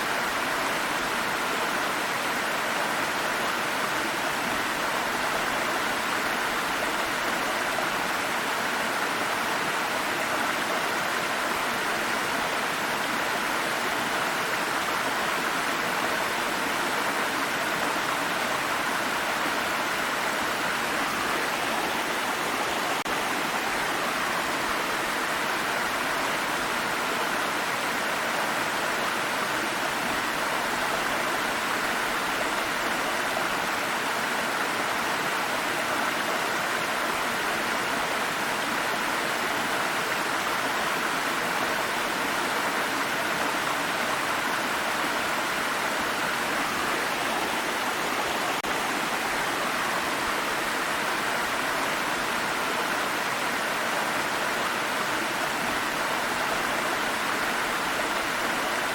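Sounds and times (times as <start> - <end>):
water stream over rocks: 0.0 - 58.9.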